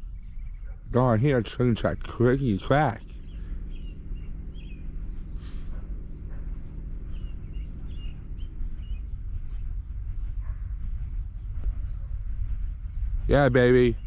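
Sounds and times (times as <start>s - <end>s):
diesel locomotive engine drone: 0.0s - 14.0s
small birds chirping: 0.0s - 14.0s.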